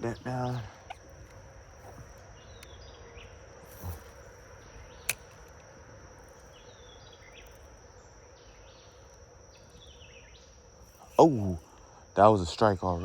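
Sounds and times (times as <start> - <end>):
high-pitched insect drone: 0.0 - 13.0
insect chirps: 0.0 - 13.0.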